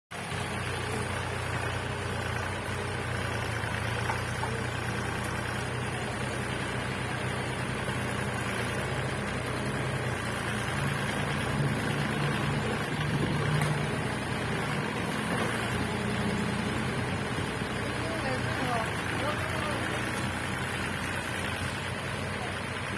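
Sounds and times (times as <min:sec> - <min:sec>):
diesel engine running: 0:00.1 - 0:22.9.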